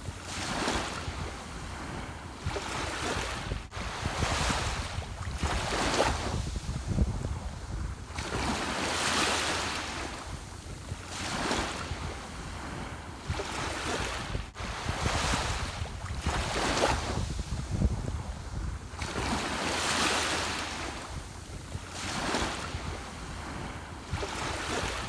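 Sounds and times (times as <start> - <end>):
ocean waves breaking on shore: 0.0 - 25.0.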